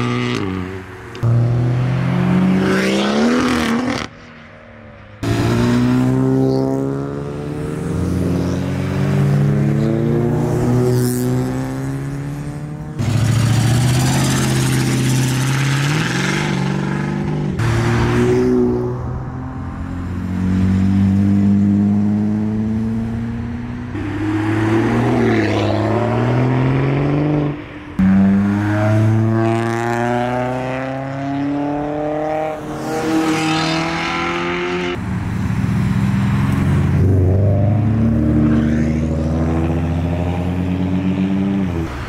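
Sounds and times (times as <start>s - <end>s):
car engines revving and accelerating: 0.0s - 42.0s.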